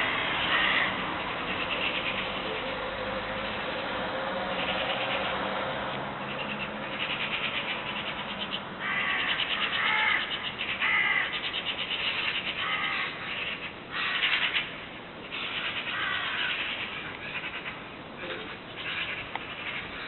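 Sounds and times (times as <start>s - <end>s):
birds making harsh calls: 0.0s - 3.7s, 4.5s - 5.5s, 6.2s - 20.0s
raspy bird chatter: 0.4s - 2.7s, 6.2s - 20.0s.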